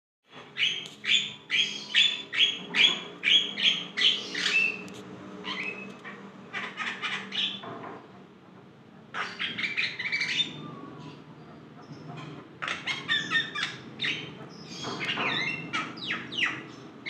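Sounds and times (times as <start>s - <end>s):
myna bird calling: 0.3s - 7.8s, 9.1s - 17.0s.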